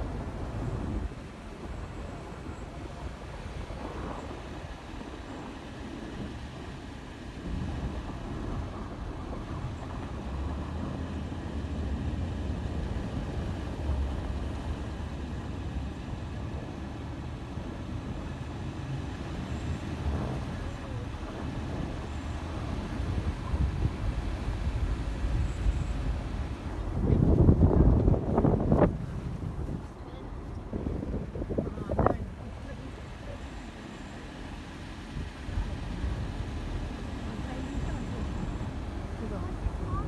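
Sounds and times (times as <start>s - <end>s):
engine and road noise rumble: 0.0s - 40.0s.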